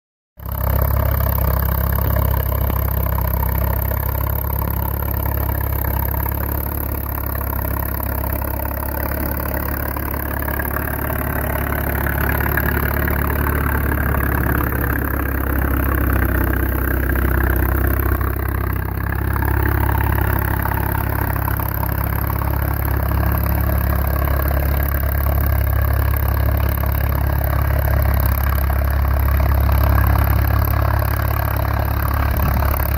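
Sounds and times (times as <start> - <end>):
tractor engine running under load: 0.4 - 32.9.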